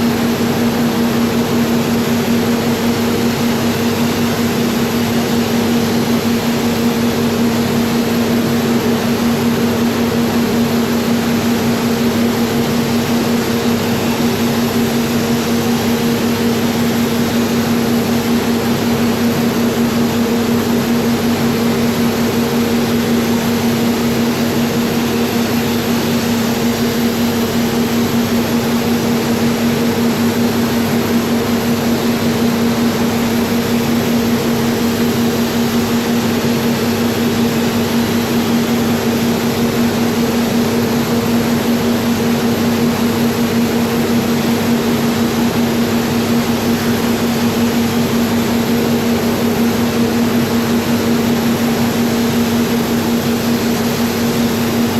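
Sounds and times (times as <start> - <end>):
ventilation fans humming: 0.0 - 54.9.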